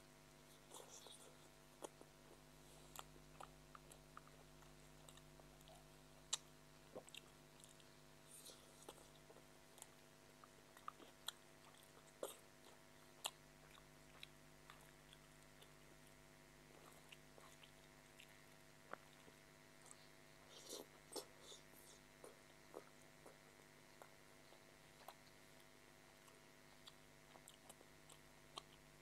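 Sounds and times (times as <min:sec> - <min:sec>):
faint steady hum: 0:00.0 - 0:29.0
person chewing noodles: 0:00.5 - 0:29.0.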